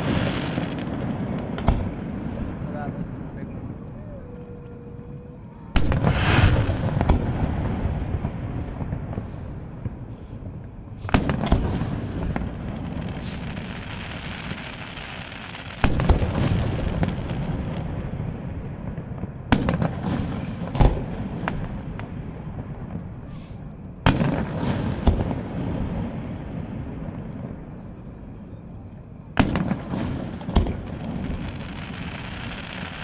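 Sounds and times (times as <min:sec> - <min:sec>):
fireworks booming: 0:00.0 - 0:27.8, 0:29.4 - 0:33.0.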